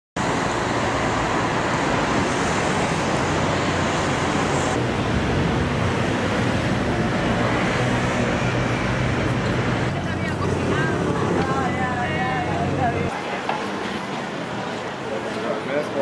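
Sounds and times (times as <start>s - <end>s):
road traffic noise: 0.2s - 16.0s.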